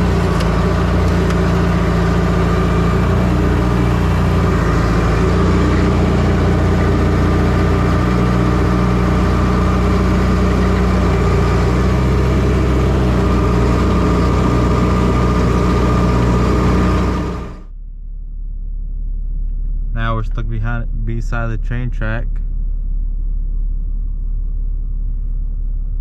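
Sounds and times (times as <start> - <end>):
motor engine running steadily: 0.0 - 26.0.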